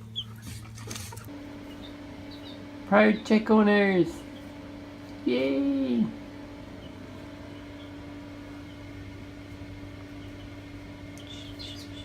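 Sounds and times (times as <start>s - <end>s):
chicks peeping: 0.0s - 5.6s, 6.2s - 12.0s
low electrical hum: 0.0s - 12.0s.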